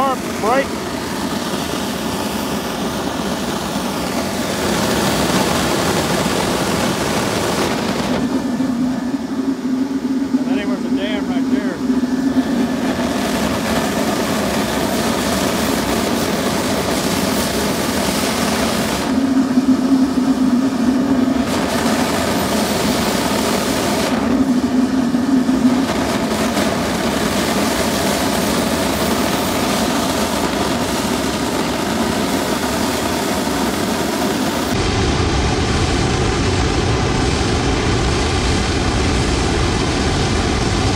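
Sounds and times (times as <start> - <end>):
furnace burner rushing: 0.0 - 40.9
low hum: 0.0 - 40.9.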